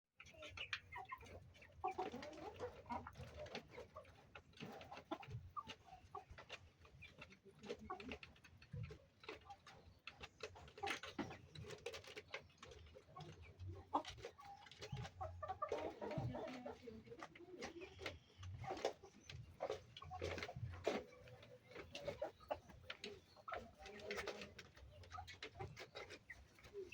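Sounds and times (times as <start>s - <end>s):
chickens clucking: 0.2s - 26.9s.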